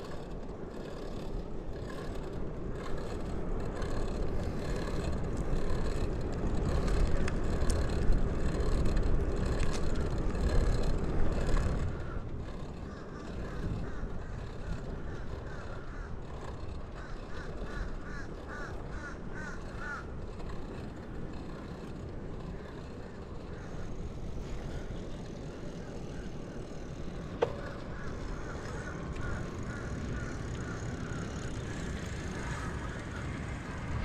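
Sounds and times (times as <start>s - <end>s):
bicycle rolling noise: 0.0s - 34.0s
wind: 0.0s - 34.0s.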